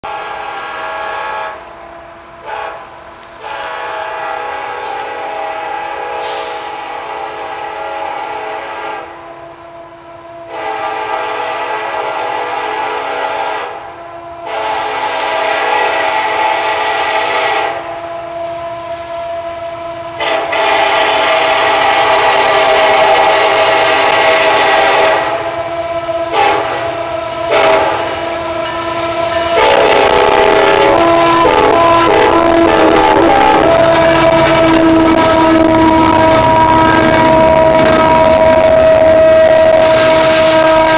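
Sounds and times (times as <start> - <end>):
locomotive air horn blasts: 0.0 - 40.9.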